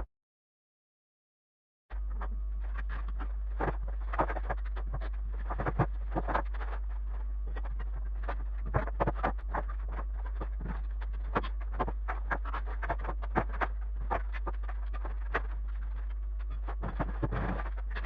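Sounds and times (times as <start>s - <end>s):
low hum: 1.9s - 18.0s.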